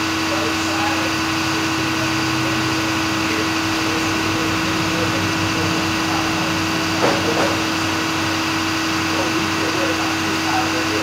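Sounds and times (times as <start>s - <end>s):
machine engine drone: 0.0s - 11.0s.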